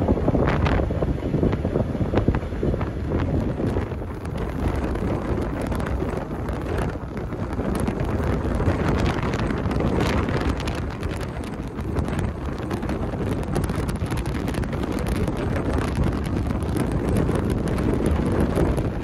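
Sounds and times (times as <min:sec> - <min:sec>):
train rumbling at speed: 0:00.0 - 0:19.0
wind buffeting microphone: 0:00.0 - 0:19.0.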